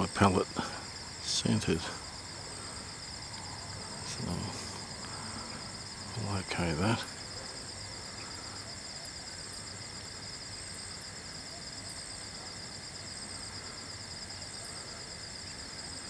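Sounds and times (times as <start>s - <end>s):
cricket chirp: 0.0s - 16.0s
insects pulsing trill: 0.0s - 16.0s.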